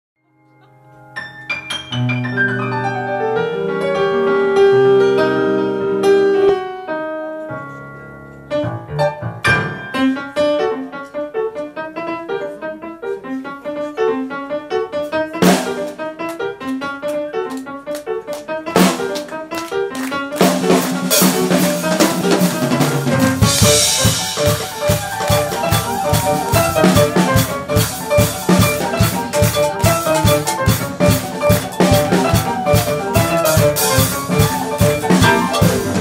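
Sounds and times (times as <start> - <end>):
keyboard piano playing: 0.6 - 36.0.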